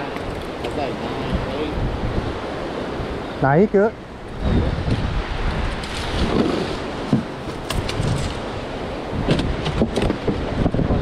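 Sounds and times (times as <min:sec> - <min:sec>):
surf rushing: 0:00.0 - 0:11.0
wind buffeting microphone: 0:00.0 - 0:11.0.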